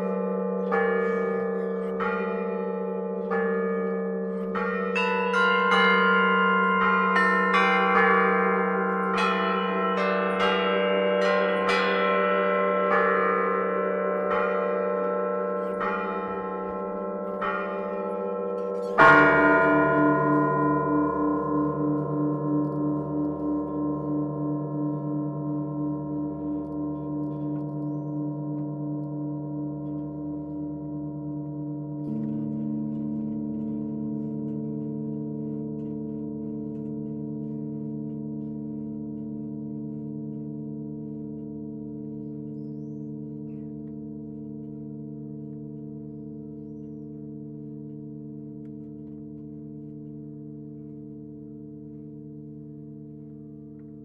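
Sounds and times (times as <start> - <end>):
church bells ringing: 0.0 - 54.0
low bell tone: 0.0 - 54.0.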